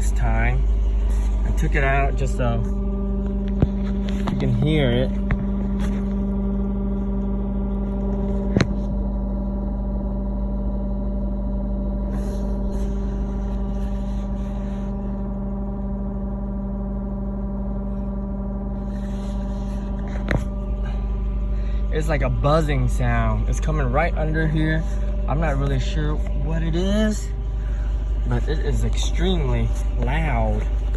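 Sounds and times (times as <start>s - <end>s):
buzzing hum under car seat: 0.0s - 30.9s.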